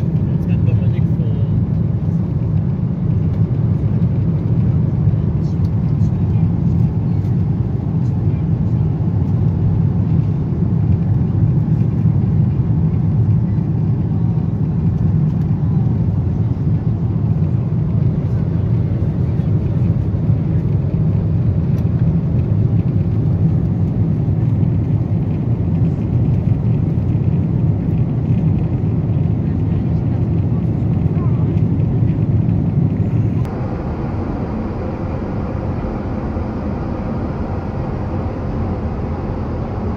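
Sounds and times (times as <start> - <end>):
airflow over fuselage: 0.0 - 39.9
jet engines rumbling: 0.0 - 39.9.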